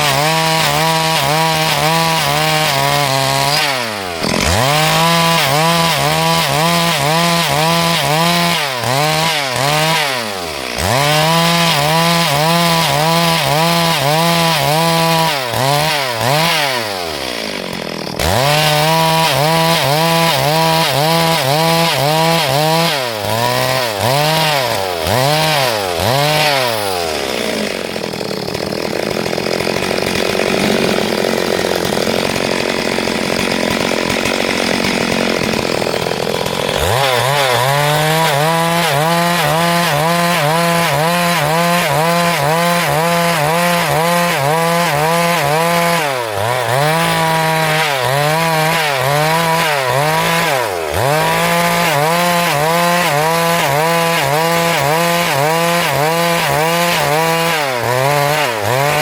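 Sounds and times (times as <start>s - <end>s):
chainsaw ripping a log: 0.0s - 59.0s.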